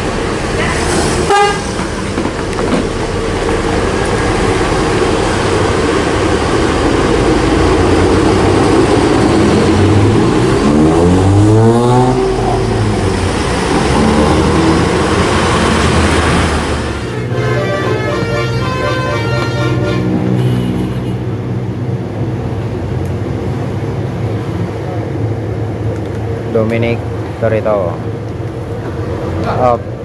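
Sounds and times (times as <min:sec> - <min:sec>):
bus engine revving: 0:00.0 - 0:26.5.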